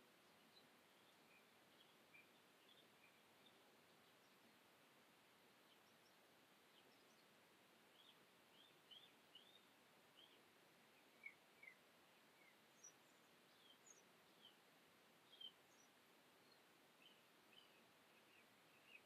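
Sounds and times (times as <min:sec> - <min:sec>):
faint bird chirps: 0:00.0 - 0:19.0
faint room hiss: 0:00.0 - 0:19.0.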